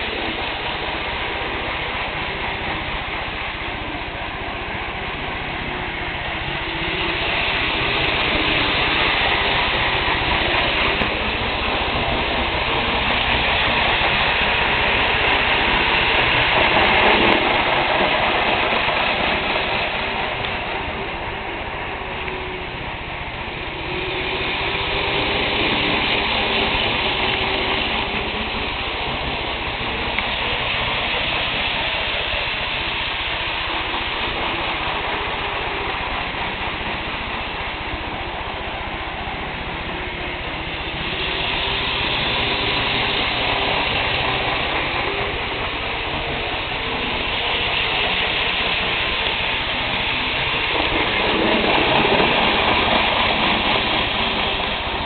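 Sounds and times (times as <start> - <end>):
model train motor whirring: 0.0 - 55.0.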